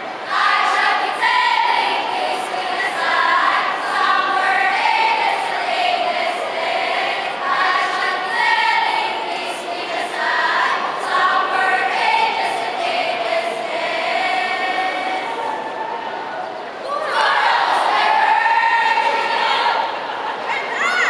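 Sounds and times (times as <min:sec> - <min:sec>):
choir of voices speaking in unison: 0:00.0 - 0:15.9, 0:16.8 - 0:21.0.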